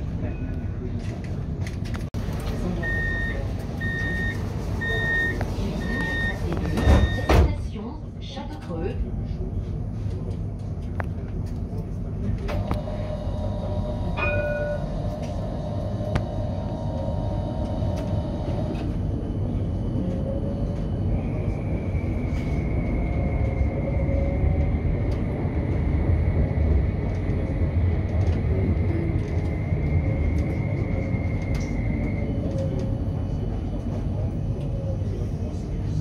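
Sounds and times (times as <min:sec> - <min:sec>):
tram rumbling on rails: 0:00.0 - 0:36.0.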